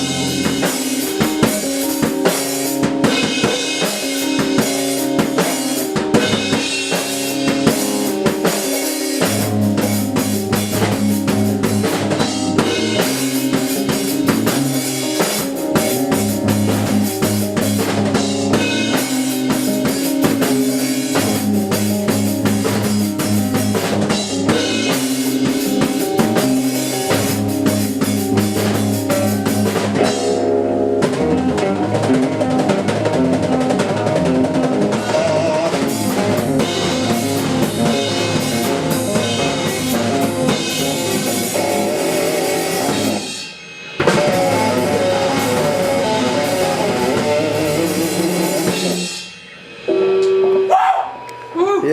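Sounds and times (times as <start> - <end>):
bass and guitar: 0.0 - 51.9
busy drum kit: 0.0 - 51.9.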